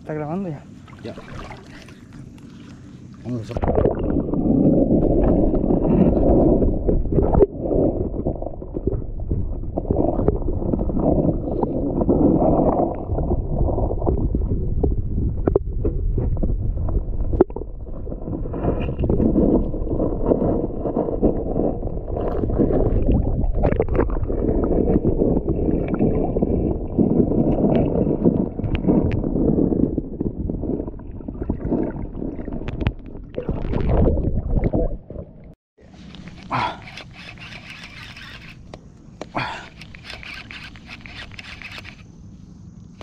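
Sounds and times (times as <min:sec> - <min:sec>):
underwater churning rumble: 0:00.0 - 0:35.6.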